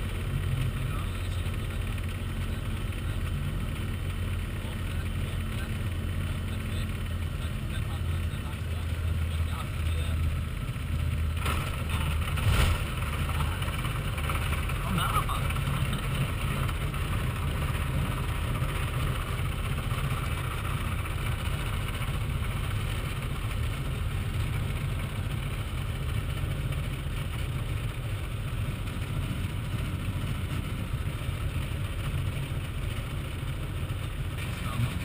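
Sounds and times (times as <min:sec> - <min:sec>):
airplane engine and propeller noise: 0:00.0 - 0:35.0.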